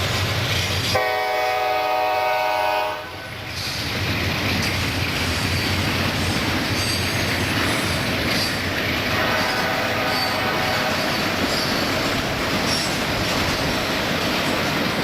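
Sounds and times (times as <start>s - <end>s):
high squeals of wheels on rail: 0.0s - 15.0s
train wheels rumbling on rails: 0.0s - 15.0s.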